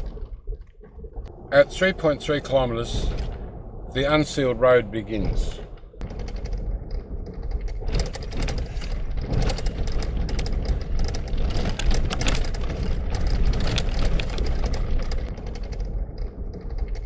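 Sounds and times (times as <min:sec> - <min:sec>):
car rattling on bumpy road: 0:00.0 - 0:17.0
car tyres and engine rumble: 0:00.0 - 0:17.0.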